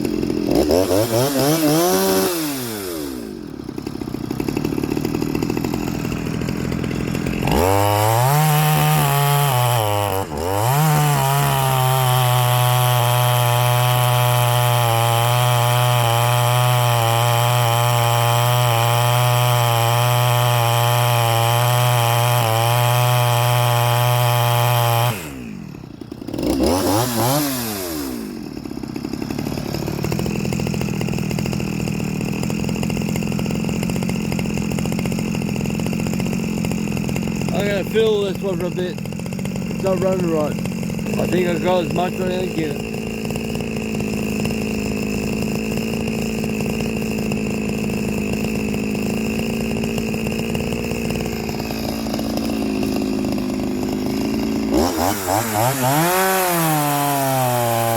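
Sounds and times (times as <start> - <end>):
chainsaw revving: 0.0 - 57.9.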